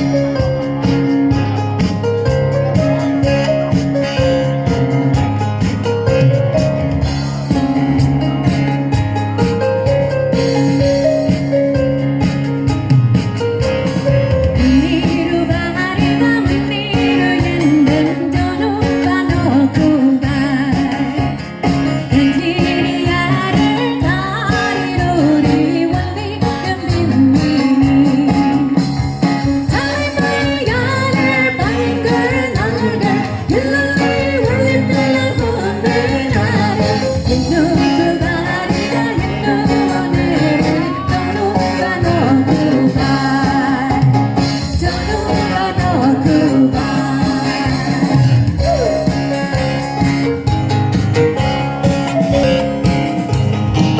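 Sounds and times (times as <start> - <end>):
instrumental backing: 0.0 - 53.9.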